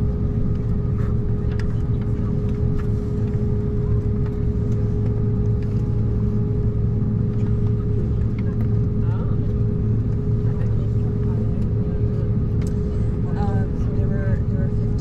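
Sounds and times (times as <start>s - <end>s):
jet cabin engine hum: 0.0s - 15.0s.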